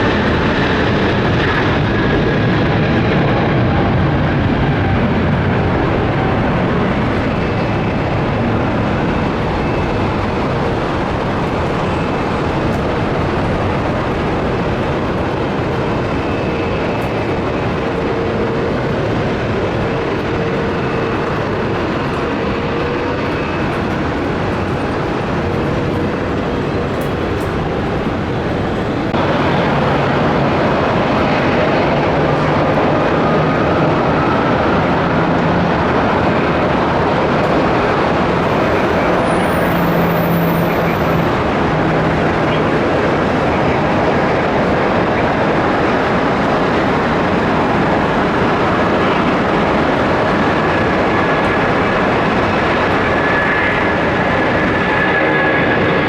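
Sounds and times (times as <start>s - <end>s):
high whine: 0.0s - 56.0s
jet engines roaring: 0.0s - 56.0s.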